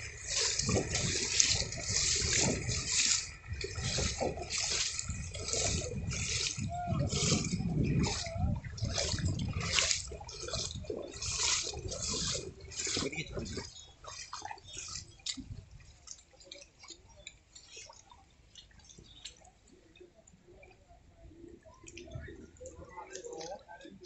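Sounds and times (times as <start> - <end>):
footsteps splashing through water: 0.0 - 20.8, 21.5 - 24.0
water dripping: 0.0 - 20.8, 21.6 - 24.0.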